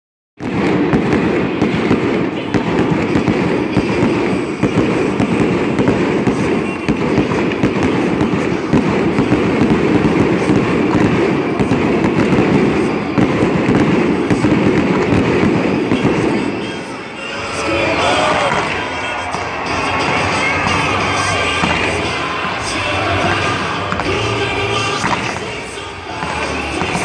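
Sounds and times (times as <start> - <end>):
fireworks bangs and crackling: 0.4 - 27.0.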